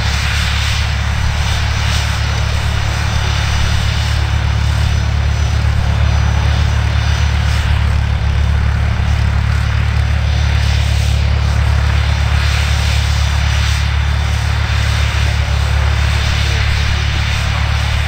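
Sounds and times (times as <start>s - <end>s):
aircraft engine rumbling: 0.0s - 18.0s.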